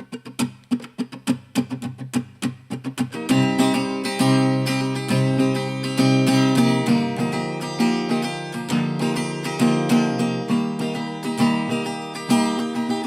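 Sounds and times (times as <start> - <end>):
acoustic guitar picking and strumming: 0.0 - 13.0.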